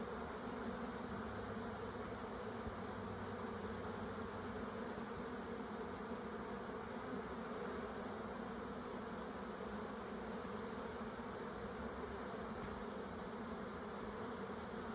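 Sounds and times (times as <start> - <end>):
honeybees buzzing: 0.0 - 14.9.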